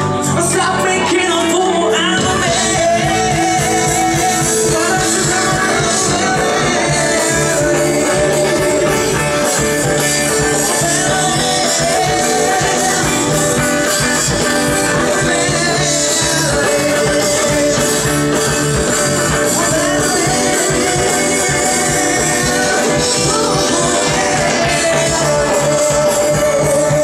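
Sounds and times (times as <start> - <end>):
live band playing: 0.0 - 27.0
person singing: 0.0 - 27.0.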